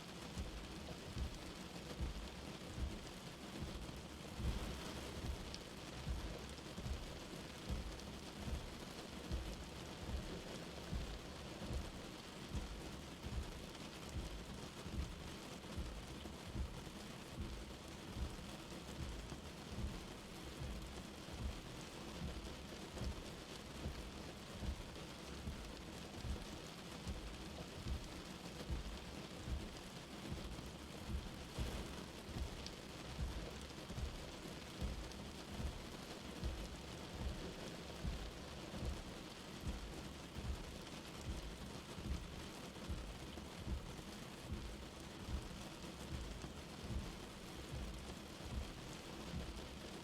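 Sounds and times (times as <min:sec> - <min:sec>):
light rain falling: 0:00.0 - 0:50.0.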